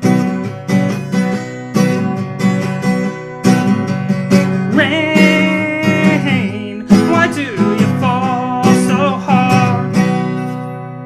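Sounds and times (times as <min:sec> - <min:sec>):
acoustic guitar strummed: 0:00.0 - 0:11.0.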